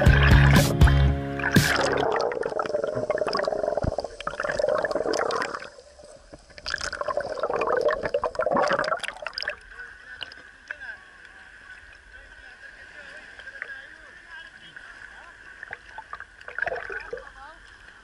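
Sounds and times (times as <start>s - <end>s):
sea water sloshing and bubbling: 1.3s - 18.0s.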